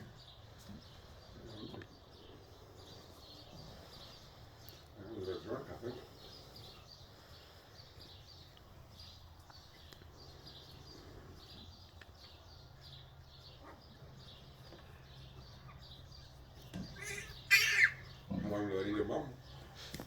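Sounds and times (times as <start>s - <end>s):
small bird chirping: 0.0s - 19.9s.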